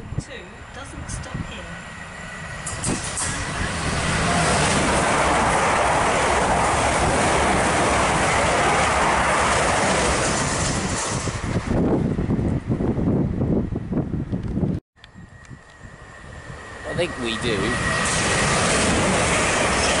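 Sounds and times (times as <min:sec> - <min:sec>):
train passing at speed: 0:00.0 - 0:14.2, 0:15.0 - 0:20.0.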